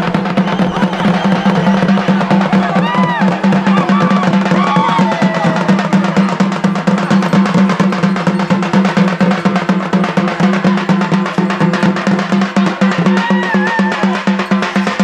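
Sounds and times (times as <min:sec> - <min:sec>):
frame drums beaten with sticks: 0:00.0 - 0:15.0.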